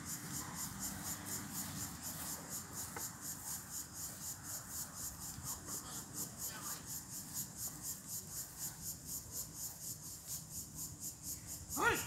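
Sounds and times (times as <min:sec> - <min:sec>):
insects chirping in fast pulses: 0:00.0 - 0:12.0.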